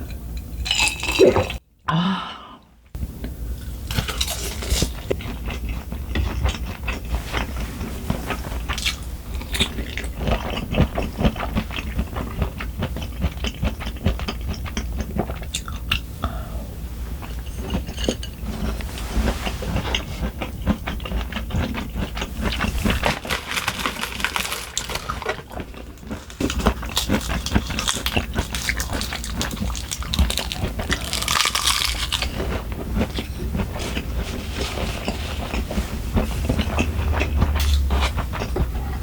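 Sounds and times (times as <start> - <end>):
chewing and eating: 3.6 - 16.4, 17.1 - 39.0.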